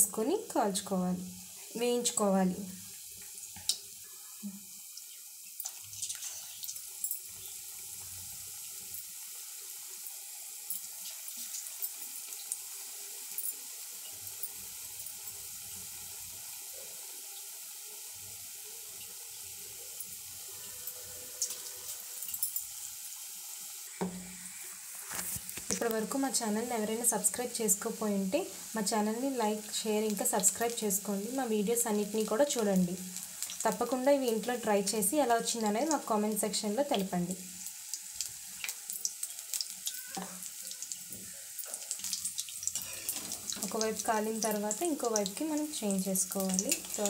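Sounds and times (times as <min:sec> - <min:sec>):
oil sizzling while deep-frying: 0:00.0 - 0:47.0.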